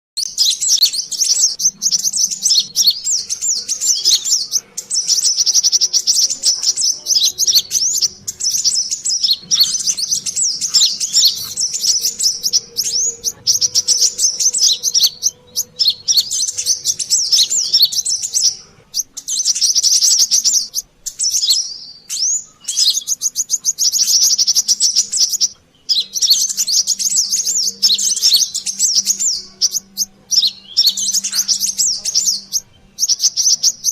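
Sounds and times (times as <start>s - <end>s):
sunbirds chattering chirps: 0.2s - 33.9s.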